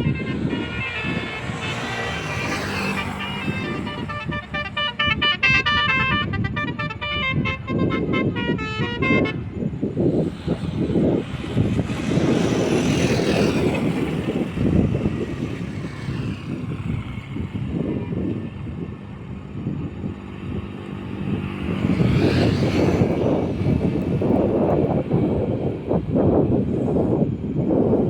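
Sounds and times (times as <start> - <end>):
heavy road traffic passing: 0.0 - 28.0.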